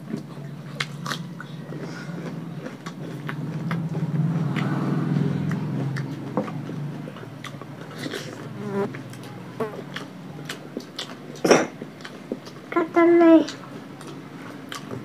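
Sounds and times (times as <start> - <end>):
chewing and finger clicks: 0.0 - 12.7, 13.5 - 15.0.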